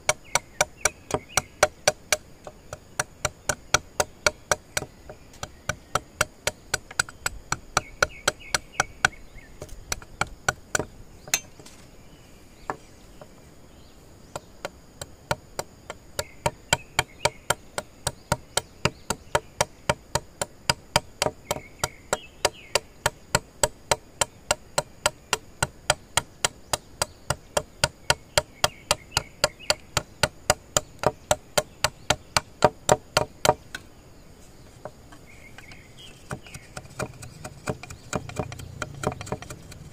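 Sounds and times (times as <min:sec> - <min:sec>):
blade chopping bamboo: 0:00.0 - 0:11.8, 0:14.3 - 0:33.9, 0:34.8 - 0:39.9
faint insects chirping: 0:00.0 - 0:39.9.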